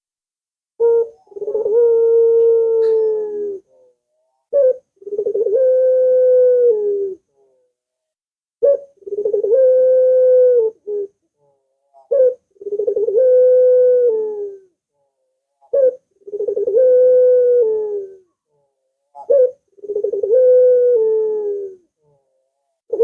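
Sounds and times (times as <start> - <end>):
dove cooing: 0.8 - 7.6, 8.6 - 14.8, 15.6 - 18.4, 19.1 - 22.3.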